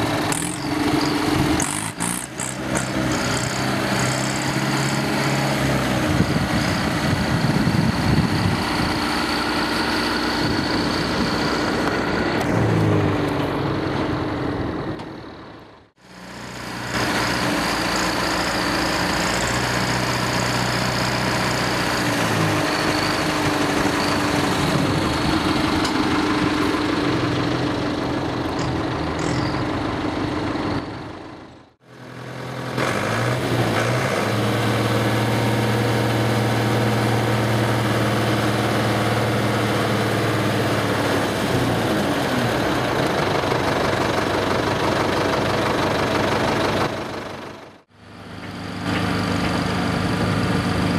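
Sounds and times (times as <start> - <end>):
tractor engines under load: 0.0 - 50.9.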